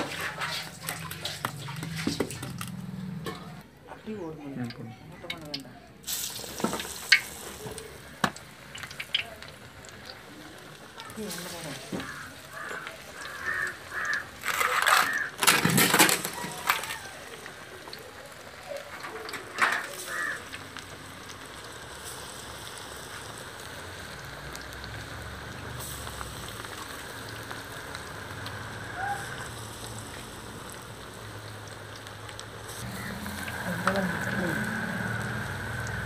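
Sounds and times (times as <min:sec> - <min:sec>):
oil sizzling in deep fryer: 0:00.0 - 0:36.0.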